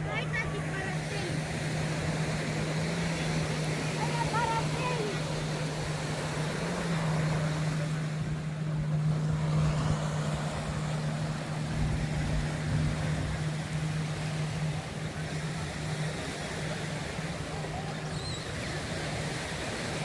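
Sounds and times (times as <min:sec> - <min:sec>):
engine humming: 0:00.0 - 0:20.0
outdoor background noise: 0:00.0 - 0:20.0.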